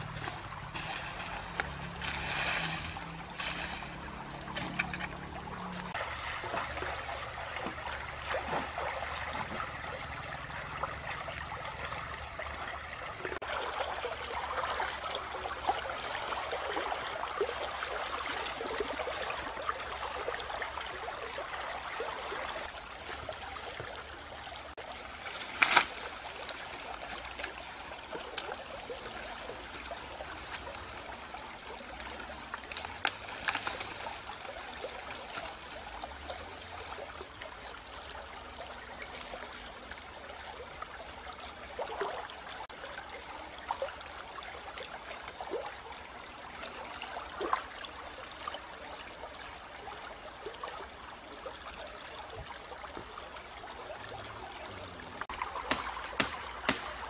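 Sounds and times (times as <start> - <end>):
stream water trickling over stones: 0.0 - 57.0.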